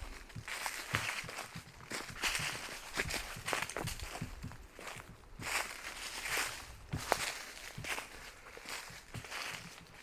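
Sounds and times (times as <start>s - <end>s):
footsteps on forest path: 0.0s - 10.0s.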